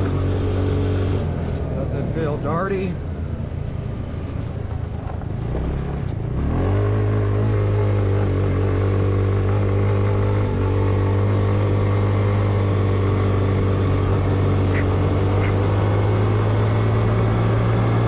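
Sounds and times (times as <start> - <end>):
go-kart engine revving: 0.0 - 3.5, 5.0 - 18.0.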